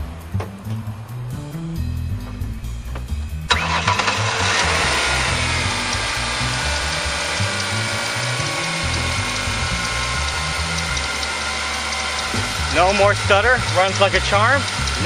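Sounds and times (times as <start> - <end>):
background music with low beat: 0.0 - 3.5, 4.4 - 15.0
car engine starting and idling: 0.1 - 15.0.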